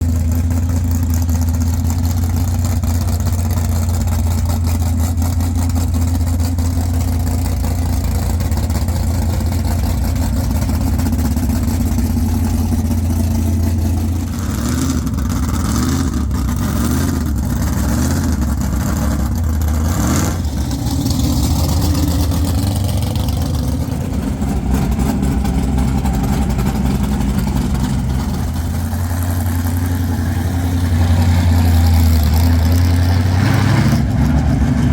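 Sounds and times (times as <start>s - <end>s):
van engine idling: 0.0s - 33.4s
engine throttle blips: 0.0s - 34.9s.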